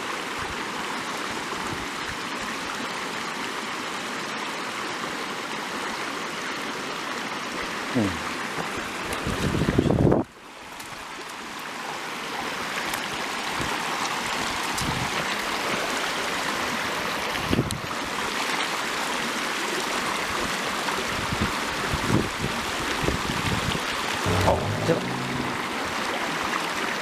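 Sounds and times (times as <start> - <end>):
stream running over rocks: 0.0 - 24.4.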